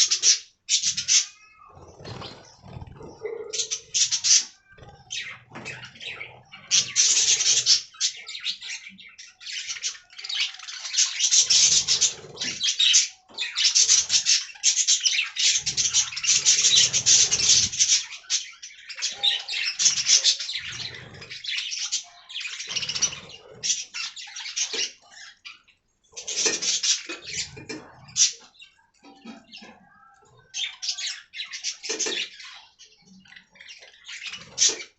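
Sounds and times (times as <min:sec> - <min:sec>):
budgerigar chattering and warbling: 0:00.0 - 0:34.9.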